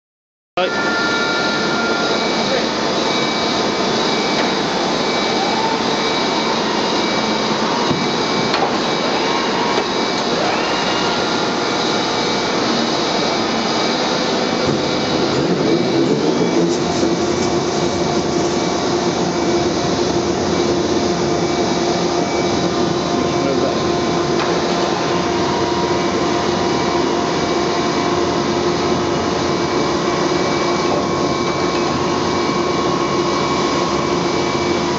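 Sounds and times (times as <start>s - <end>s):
machine hum and whine: 0.6s - 34.9s.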